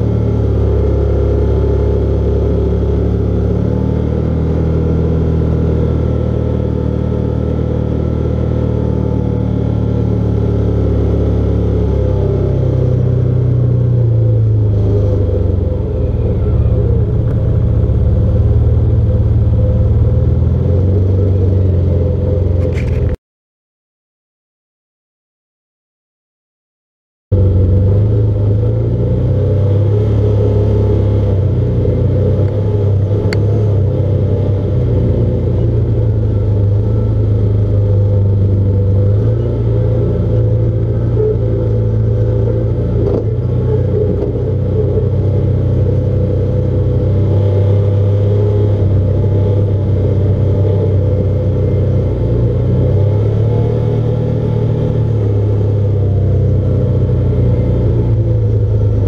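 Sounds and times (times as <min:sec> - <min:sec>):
vehicle engine running: 0:00.0 - 0:23.2, 0:27.3 - 0:59.0.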